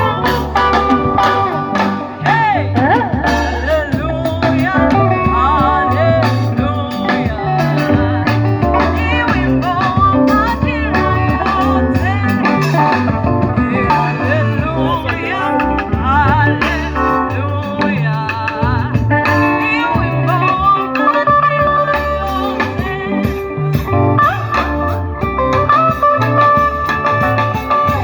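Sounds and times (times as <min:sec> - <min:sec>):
bass line: 0:00.0 - 0:28.0
guitar: 0:00.0 - 0:28.0
person singing: 0:00.0 - 0:28.0.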